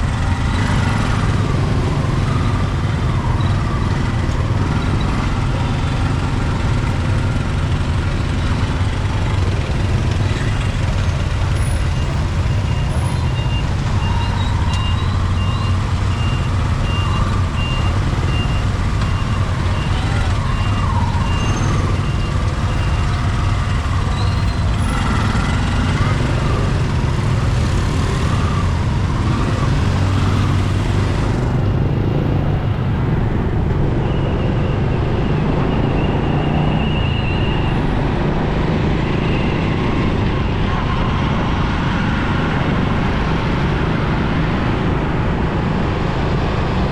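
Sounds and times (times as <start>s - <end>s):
engines and road noise rumbling: 0.0s - 46.9s.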